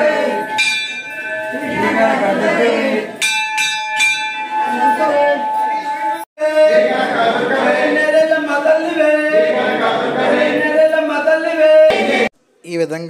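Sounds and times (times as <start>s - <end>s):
voices singing a chant: 0.0s - 3.3s, 4.6s - 12.4s.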